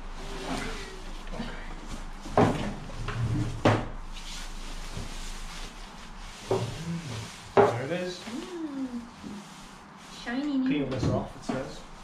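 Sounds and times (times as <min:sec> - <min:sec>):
cardboard and plastic rustling: 0:00.3 - 0:11.7.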